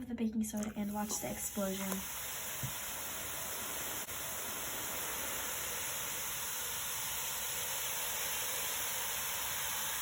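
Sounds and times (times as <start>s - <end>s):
fizzing chemical reaction: 0.4s - 10.0s.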